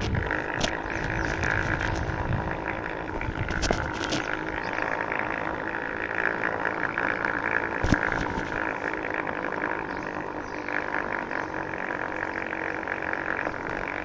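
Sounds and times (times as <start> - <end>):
electric motor whining: 0.0 - 14.0
wind rumble on microphone: 0.0 - 14.0.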